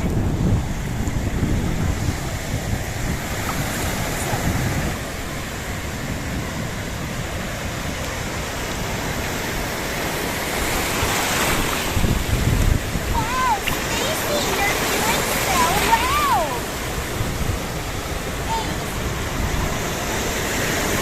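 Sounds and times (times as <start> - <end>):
sea surf washing on a beach: 0.0 - 21.0
wind rumbling on microphone: 0.0 - 21.0.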